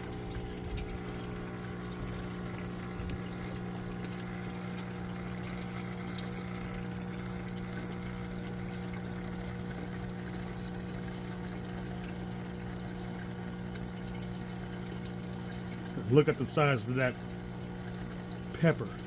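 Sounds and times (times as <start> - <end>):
running water: 0.0 - 19.0
water pump humming: 0.0 - 19.0.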